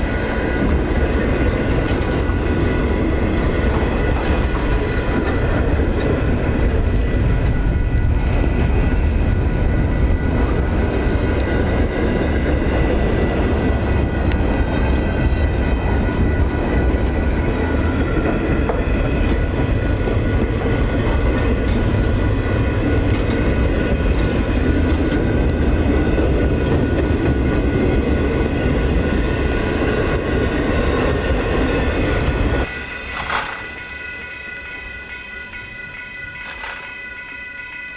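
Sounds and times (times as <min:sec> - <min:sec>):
train passing rumble: 0:00.0 - 0:37.9.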